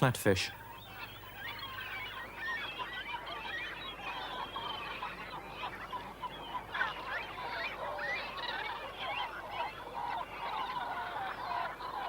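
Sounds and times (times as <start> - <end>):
seabirds crying in chorus: 0.3 - 12.0.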